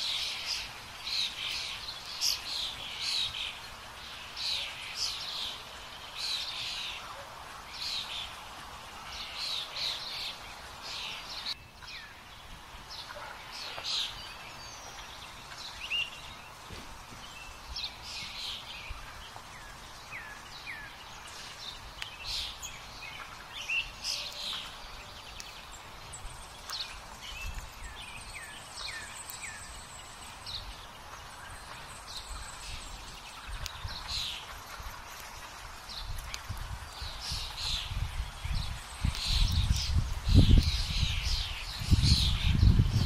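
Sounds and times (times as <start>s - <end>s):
woodland birds singing: 0.0s - 43.0s.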